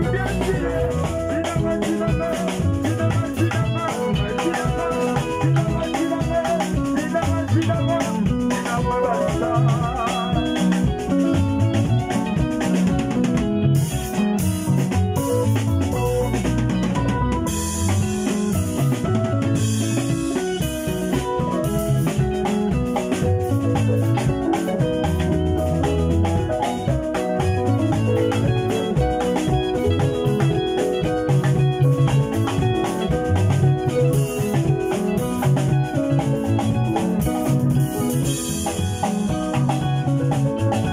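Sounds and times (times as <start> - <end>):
deep bass line: 0.0 - 40.9
drums: 0.0 - 40.9
electric guitars: 0.0 - 40.9
keyboard: 0.0 - 40.9
live instrumental band music: 0.0 - 40.9.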